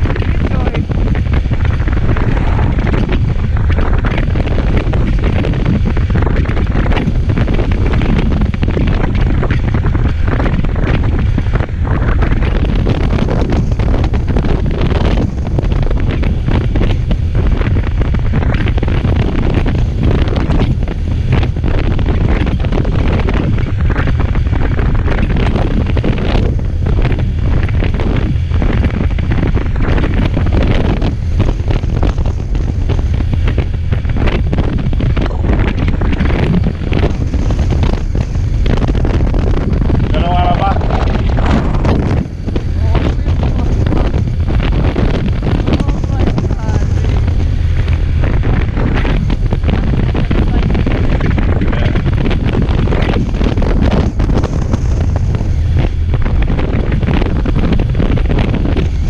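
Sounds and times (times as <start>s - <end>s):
motorcycle noise: 0.0s - 59.0s
wind buffeting microphone: 0.0s - 59.0s.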